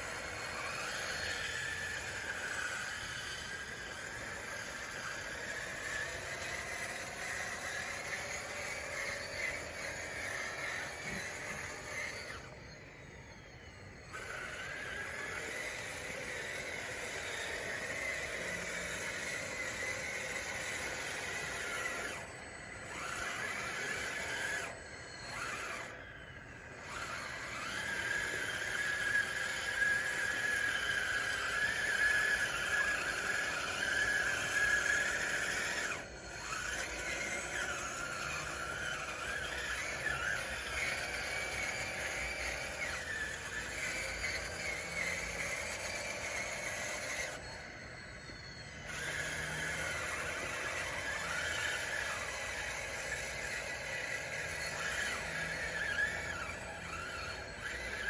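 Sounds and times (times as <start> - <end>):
electric motors and gearboxes whining: 0.0 - 58.0.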